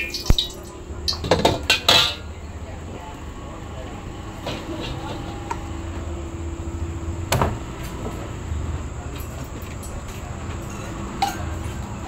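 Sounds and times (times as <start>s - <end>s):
gas burners roaring: 0.0s - 12.0s.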